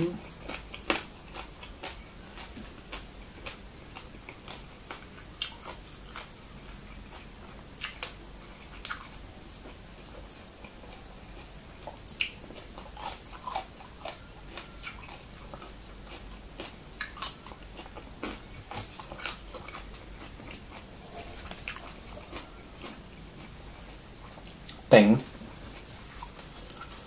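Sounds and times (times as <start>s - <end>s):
person chewing food: 0.2s - 27.0s.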